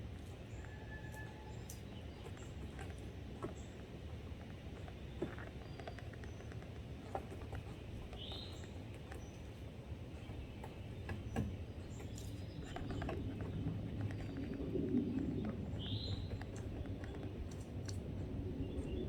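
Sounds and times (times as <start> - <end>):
woodpeckers pecking at wood: 1.7 - 19.0.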